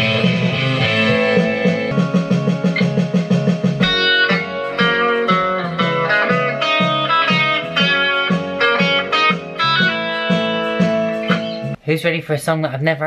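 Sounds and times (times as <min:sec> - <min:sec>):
guitar-led music with beat: 0:00.0 - 0:11.8.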